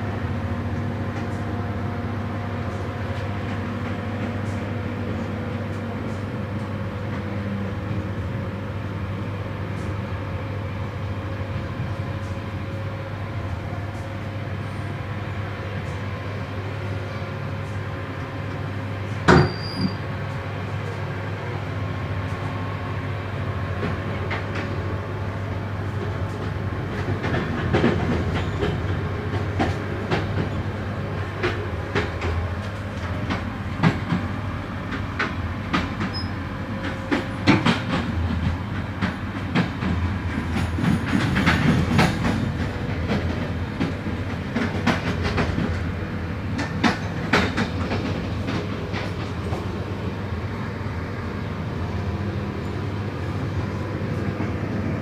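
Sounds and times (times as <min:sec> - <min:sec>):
train running drone: 0:00.0 - 0:55.0.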